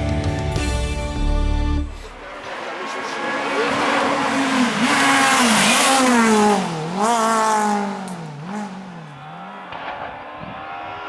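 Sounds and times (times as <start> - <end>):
rally car engine revving past: 2.0 - 11.0.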